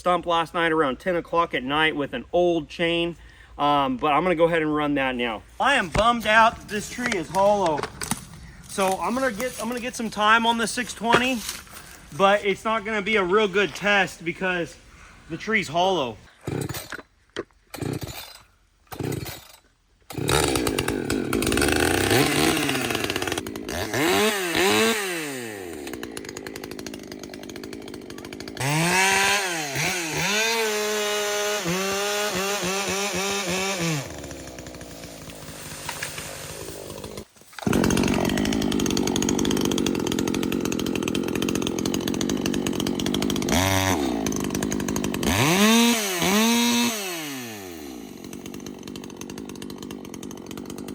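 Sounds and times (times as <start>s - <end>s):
chainsaw cutting wood: 5.6s - 14.4s, 15.8s - 50.9s
chainsaw revving: 5.6s - 14.4s, 16.2s - 17.1s, 17.7s - 50.9s.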